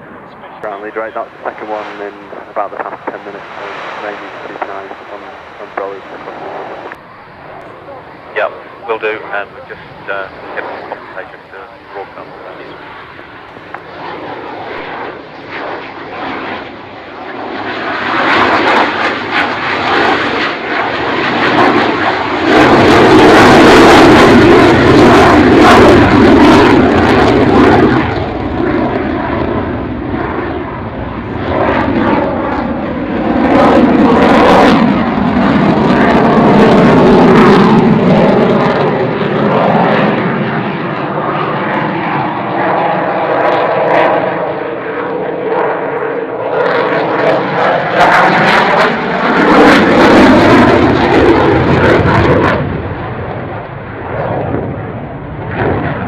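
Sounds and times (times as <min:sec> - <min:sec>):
fighter jet flying past: 0:00.0 - 0:56.0.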